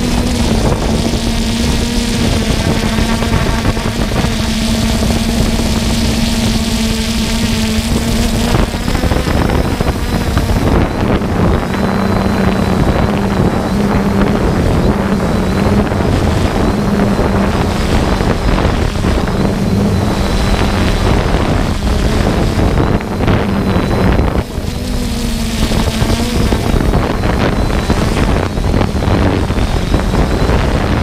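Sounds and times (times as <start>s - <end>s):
drone propellers humming: 0.0s - 31.0s
wind noise on microphone: 0.0s - 31.0s.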